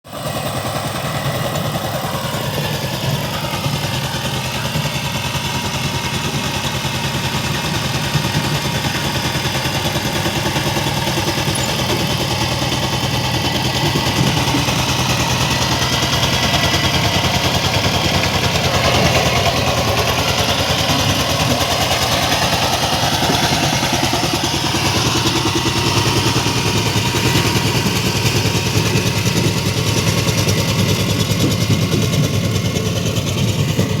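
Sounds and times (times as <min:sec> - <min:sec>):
tiller engine chugging: 0:00.1 - 0:34.0.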